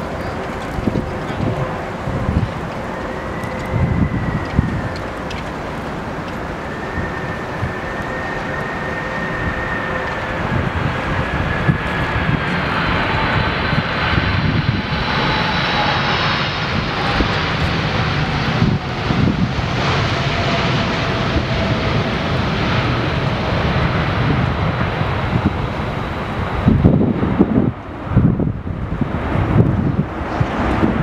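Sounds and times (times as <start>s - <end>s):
jet airliner passing by: 0.0s - 31.0s.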